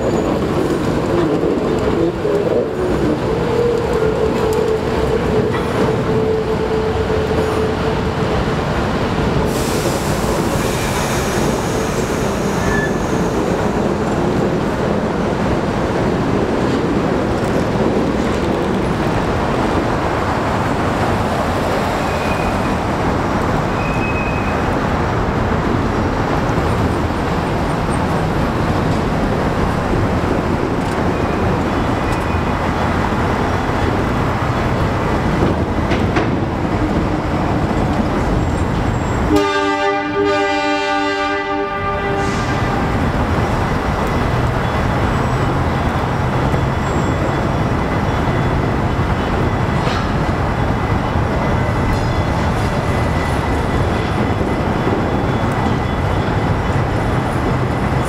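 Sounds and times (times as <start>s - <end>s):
locomotive rumbling: 0.0s - 58.0s.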